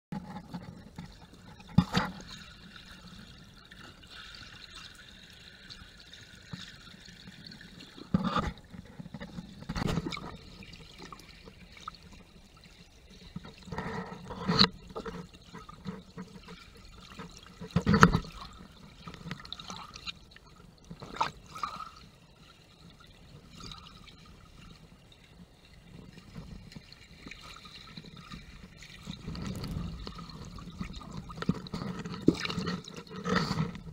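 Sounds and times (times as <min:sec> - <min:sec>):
muffled underwater water noise: 0:00.1 - 0:33.9.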